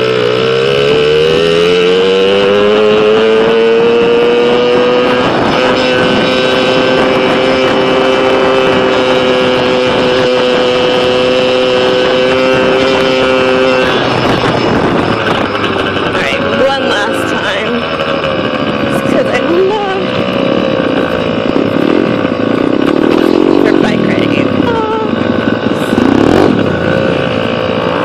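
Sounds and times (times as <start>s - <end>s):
small motorbike engine revving: 0.0s - 28.0s.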